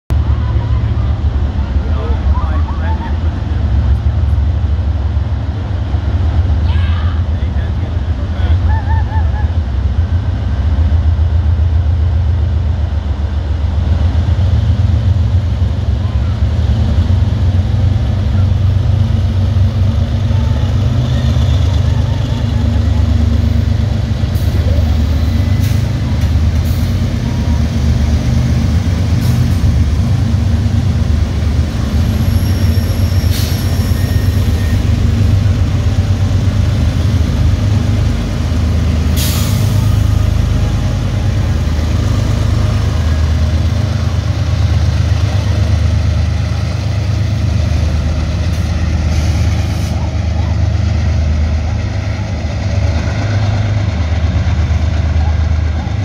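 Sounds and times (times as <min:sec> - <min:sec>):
diesel locomotive engines rumbling: 0:00.1 - 0:56.0
freight cars rolling past: 0:00.1 - 0:56.0.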